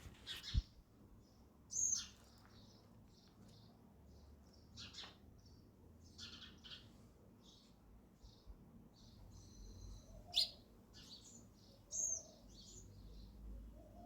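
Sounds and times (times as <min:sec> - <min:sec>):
sparrows chirping: 0:00.0 - 0:14.0.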